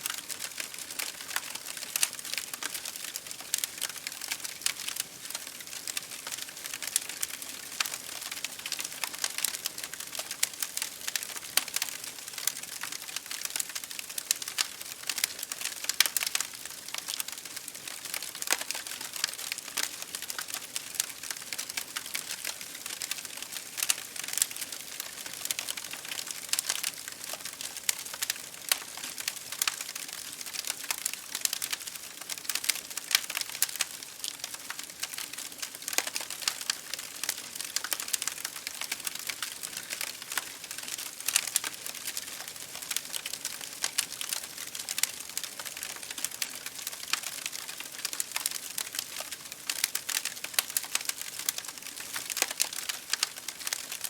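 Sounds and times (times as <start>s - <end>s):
rain hissing against a window: 0.0s - 54.0s
wood fire crackling: 0.0s - 54.0s.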